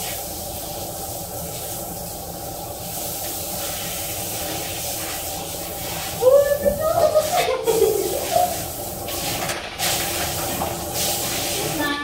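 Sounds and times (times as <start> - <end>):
shower head spraying water: 0.0 - 12.0.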